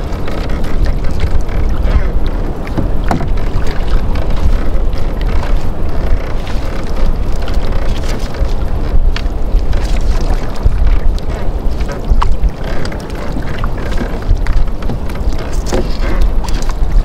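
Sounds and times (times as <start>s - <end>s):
water lapping against canoe: 0.0s - 17.0s
wind rumble on microphone: 0.0s - 17.0s.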